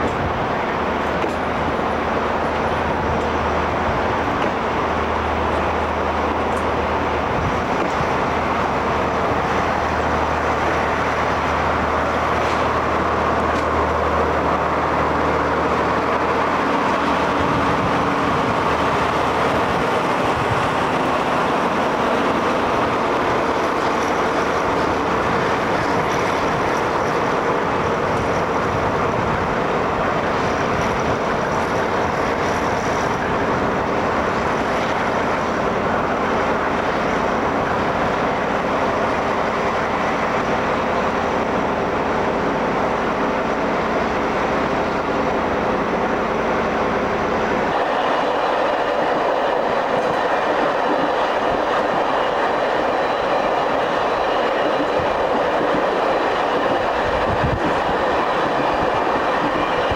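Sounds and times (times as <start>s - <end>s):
traffic and rolling noise: 0.0s - 59.9s.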